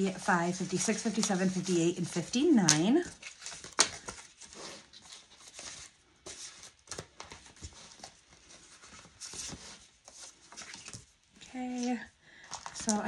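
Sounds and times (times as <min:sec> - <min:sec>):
banknotes and sleeves rustling: 0:00.0 - 0:13.0.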